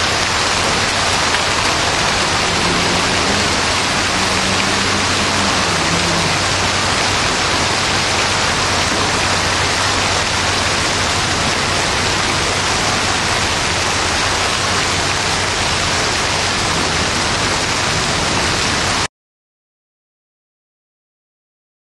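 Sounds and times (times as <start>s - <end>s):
heavy rain and hail: 0.0s - 19.1s.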